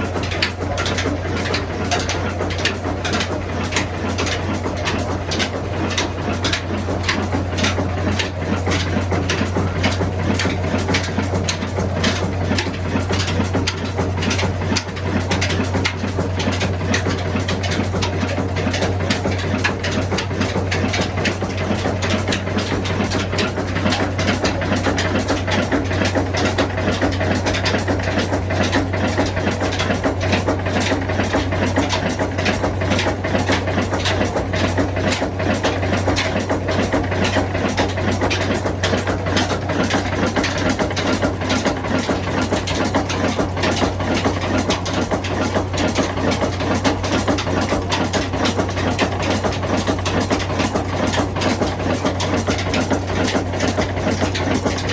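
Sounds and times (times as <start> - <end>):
diesel engine drone: 0.0 - 54.9
mechanical clicking clatter: 0.0 - 54.9.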